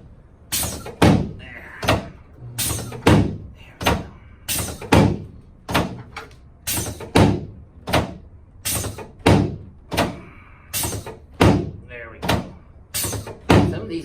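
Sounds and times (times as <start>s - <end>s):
heavy thumps: 0.5s - 13.8s.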